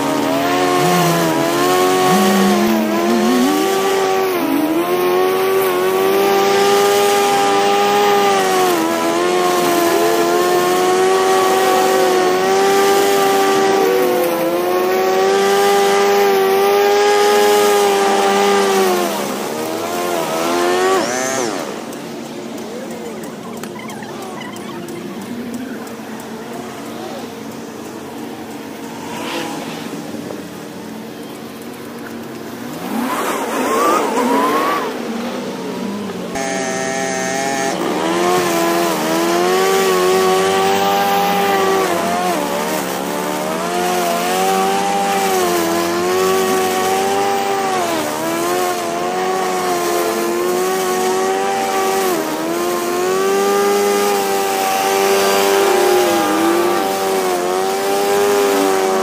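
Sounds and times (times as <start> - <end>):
lawn mower engine cutting grass: 0.0 - 59.0.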